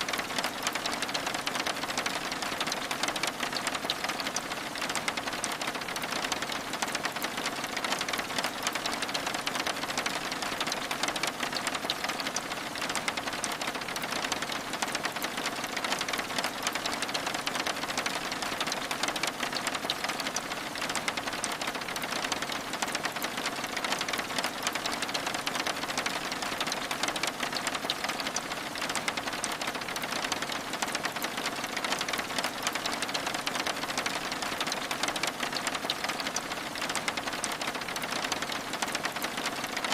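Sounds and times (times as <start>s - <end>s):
rain pattering on window glass: 0.0s - 39.9s.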